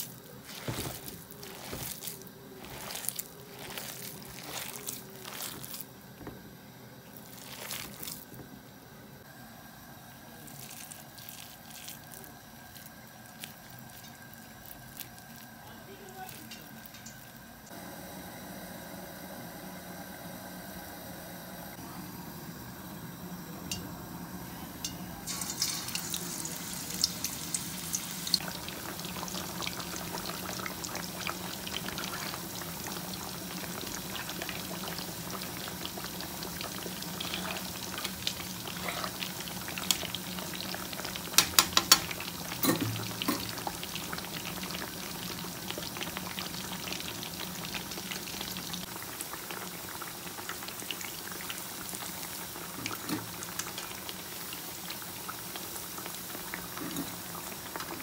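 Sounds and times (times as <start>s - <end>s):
patties sizzling in hot oil: 0.0s - 18.0s, 23.7s - 58.0s.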